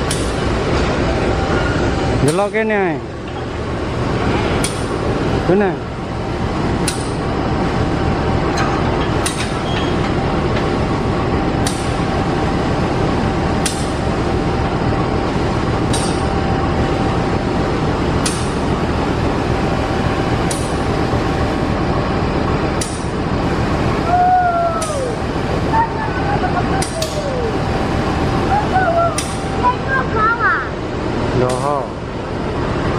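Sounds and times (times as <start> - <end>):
diesel locomotive running: 0.0 - 32.9.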